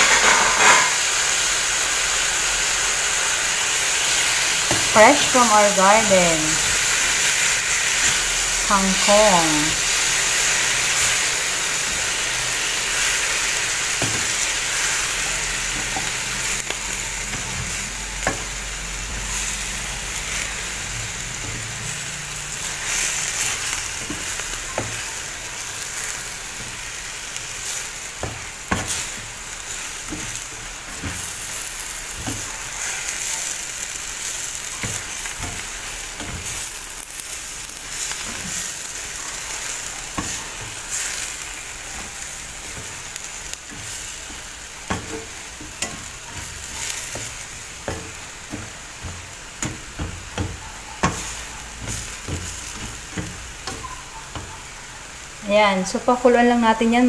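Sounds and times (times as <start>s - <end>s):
spatula clicking and scraping pan: 0.0s - 1.0s, 9.9s - 55.3s
vegetables sizzling in a skillet: 0.0s - 57.0s.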